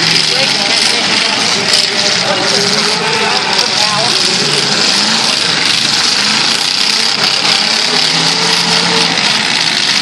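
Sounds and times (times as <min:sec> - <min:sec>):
car engines running together: 0:00.0 - 0:10.0.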